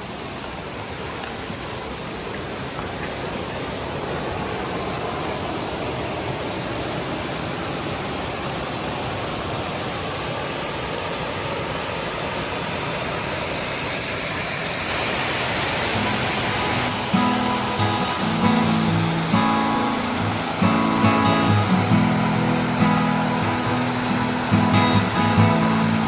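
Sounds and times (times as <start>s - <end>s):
waterfall pouring and splashing: 0.0s - 26.0s.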